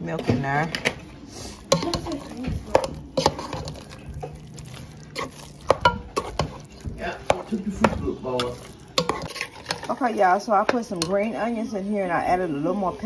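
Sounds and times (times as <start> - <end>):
spoon stirring mashed potatoes: 0.2 - 11.6.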